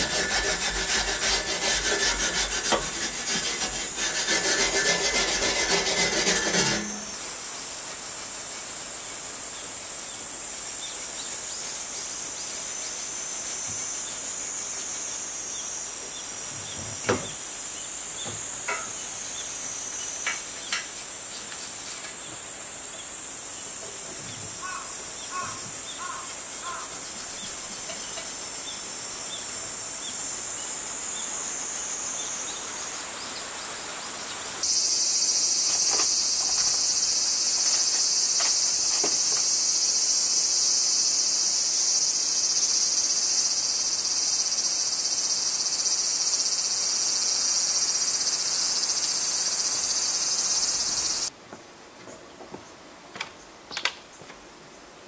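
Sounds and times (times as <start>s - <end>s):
cicadas droning: 0.0s - 51.4s.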